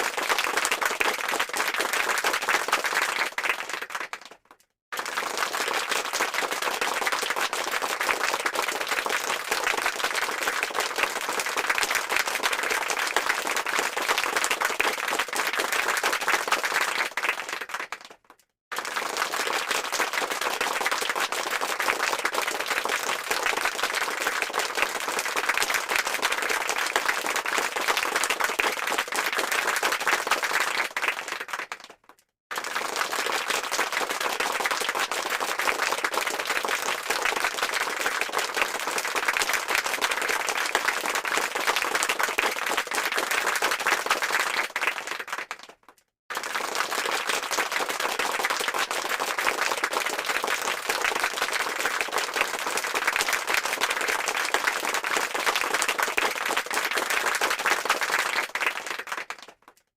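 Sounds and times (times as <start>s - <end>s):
crowd clapping: 0.0s - 59.9s.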